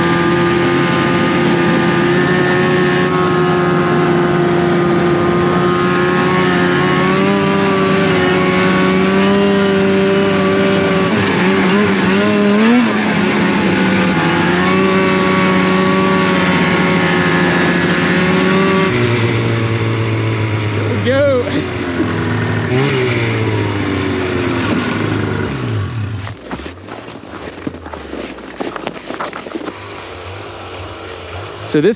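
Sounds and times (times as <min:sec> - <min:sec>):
snowmobile engine running: 0:00.0 - 0:31.9.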